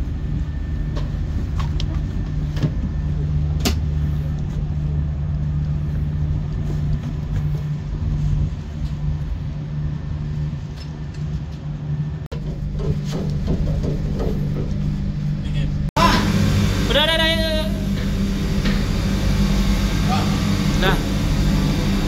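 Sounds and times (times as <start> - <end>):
ship machinery humming: 0.0 - 22.0.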